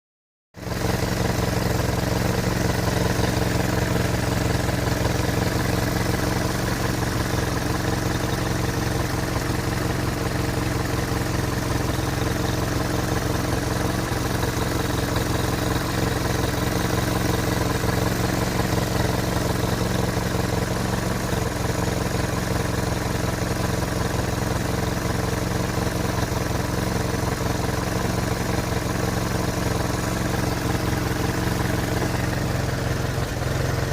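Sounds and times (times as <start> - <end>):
car engine idling: 0.6 - 33.9.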